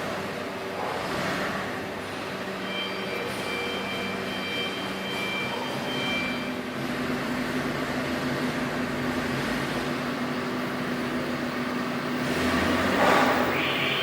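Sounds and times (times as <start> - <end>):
diesel generator droning: 0.0 - 14.0.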